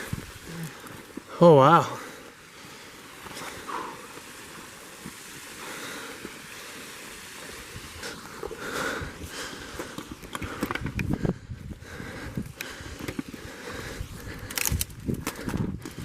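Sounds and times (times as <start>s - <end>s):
footsteps crunching on slope: 0.0s - 16.0s.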